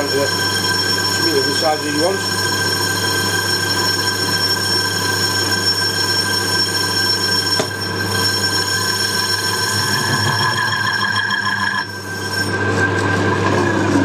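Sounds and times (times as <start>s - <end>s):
metal lathe whining: 0.0s - 14.0s.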